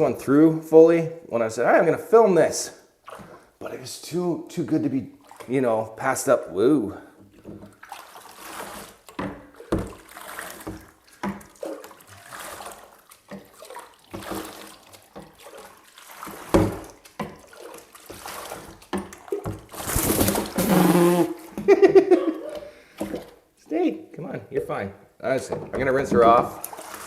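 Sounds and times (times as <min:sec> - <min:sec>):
water sloshing and splashing: 0:02.6 - 0:23.6, 0:25.3 - 0:27.0.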